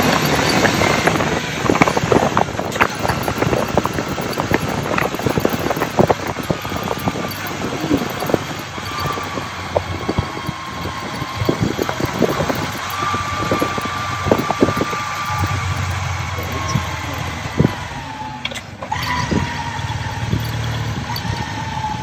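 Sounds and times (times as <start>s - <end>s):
motorcycle engine crackling: 0.0s - 22.0s.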